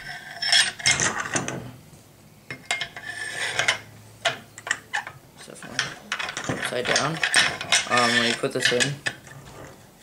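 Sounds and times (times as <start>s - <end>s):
metal sliding and scraping: 0.0s - 1.8s, 2.6s - 10.0s.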